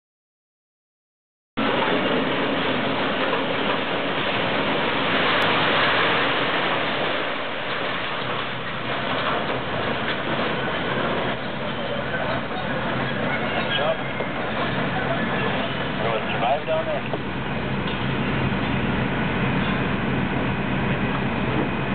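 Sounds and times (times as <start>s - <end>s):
debris crashing and clattering: 1.6s - 19.9s
excavator engines running: 1.6s - 21.9s.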